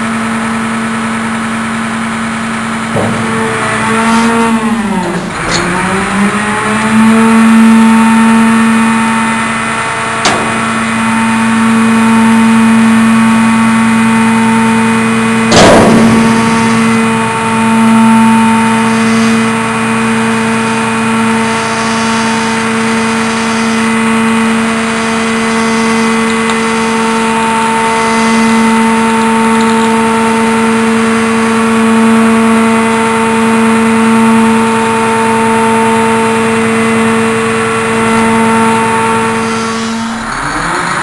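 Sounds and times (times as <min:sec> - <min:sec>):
diesel engine droning: 0:00.0 - 0:41.0
hydraulic whine: 0:00.0 - 0:41.0.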